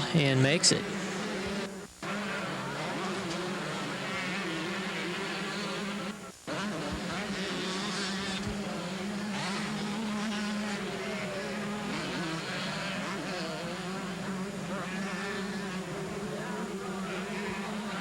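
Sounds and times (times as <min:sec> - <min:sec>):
motocross bikes racing: 0:00.0 - 0:18.0.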